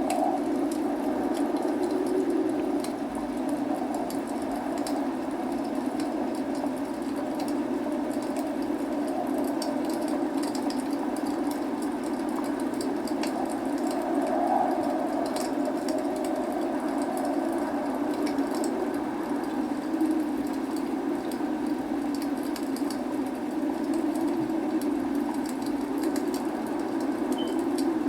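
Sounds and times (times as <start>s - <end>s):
log fire crackling: 0.0s - 28.0s
rain hissing: 0.0s - 28.0s.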